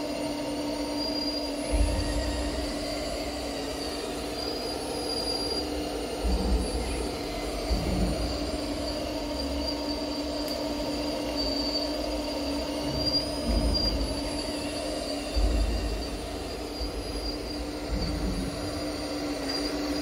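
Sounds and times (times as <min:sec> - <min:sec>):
model excavator motors whining: 0:00.0 - 0:20.0.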